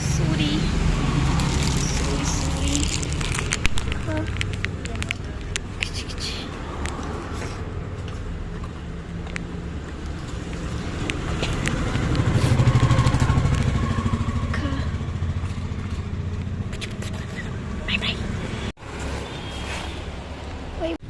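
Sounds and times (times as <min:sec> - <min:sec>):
vehicle engine passing by: 0:00.0 - 0:20.9.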